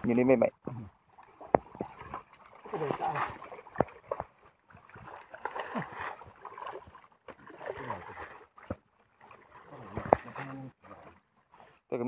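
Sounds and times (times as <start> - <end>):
small splashes: 0.7 - 11.8
hands sloshing in muddy water: 1.0 - 11.8.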